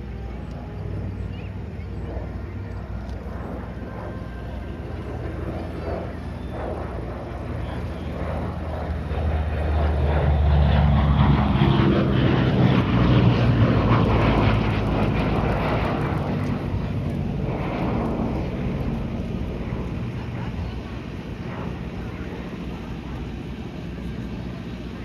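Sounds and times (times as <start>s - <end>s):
propeller plane flying past: 0.0s - 25.0s.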